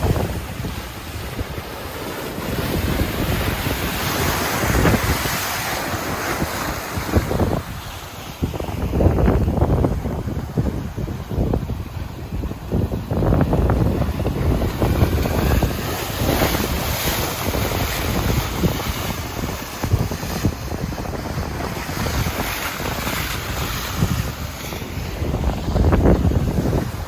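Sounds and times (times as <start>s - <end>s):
surf breaking on beach: 0.0s - 27.0s
wind buffeting microphone: 0.0s - 27.0s.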